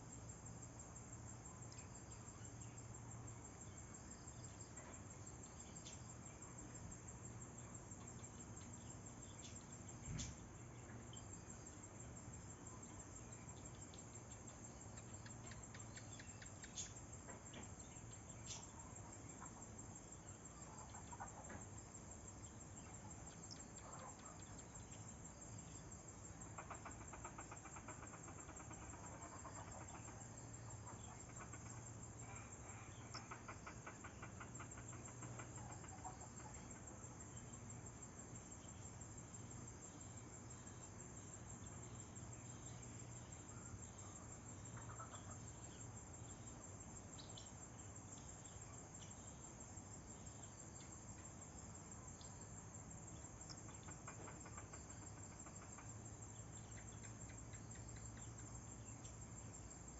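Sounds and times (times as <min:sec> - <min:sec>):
insect chorus trilling: 0:00.0 - 0:59.9
sharp insect chirps: 0:00.0 - 0:59.9.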